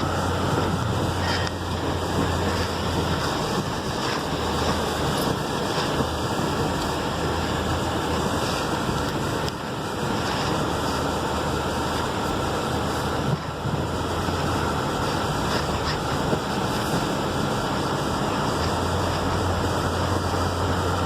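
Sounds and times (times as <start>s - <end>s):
vehicle engine and tyre noise: 0.0s - 21.0s.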